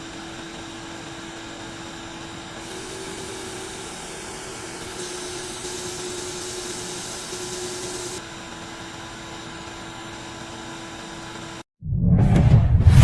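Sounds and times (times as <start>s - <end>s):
vacuum motor humming and hissing: 0.0s - 11.6s.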